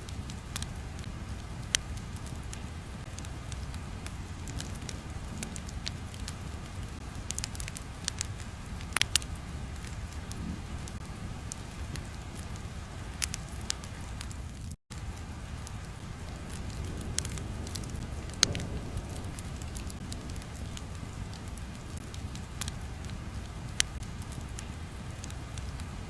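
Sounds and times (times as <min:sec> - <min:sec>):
sharp crackles and pops: 0:00.0 - 0:26.0.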